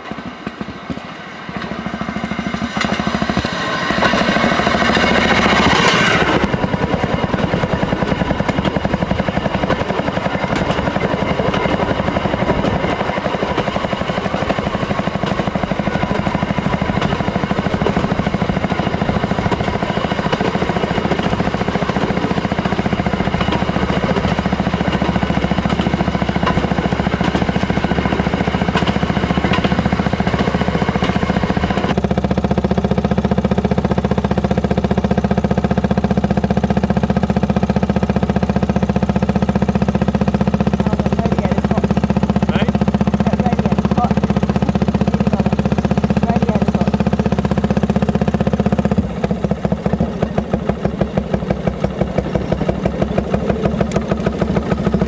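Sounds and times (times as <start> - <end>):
rail car engine running: 0.0 - 55.0.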